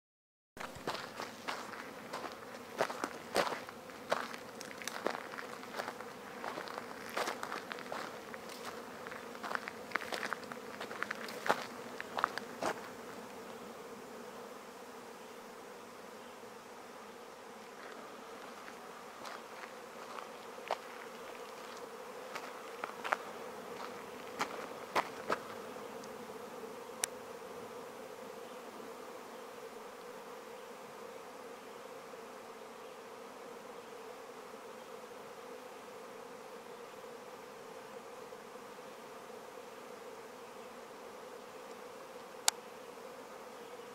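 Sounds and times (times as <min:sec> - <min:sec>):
insect swarm buzzing: 0:00.6 - 0:43.9.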